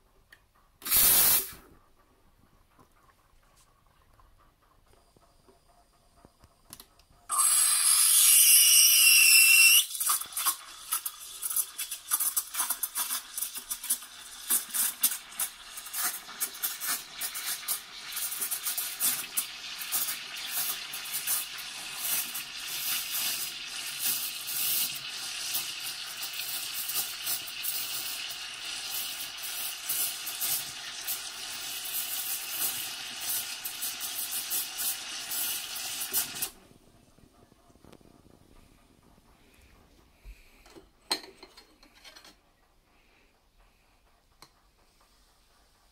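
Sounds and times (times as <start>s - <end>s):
steam wand frothing milk: 3.9s - 45.9s.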